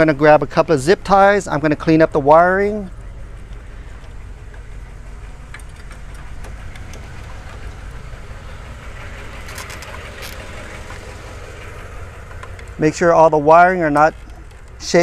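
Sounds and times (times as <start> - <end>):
low engine-like rumble: 0.0 - 15.0.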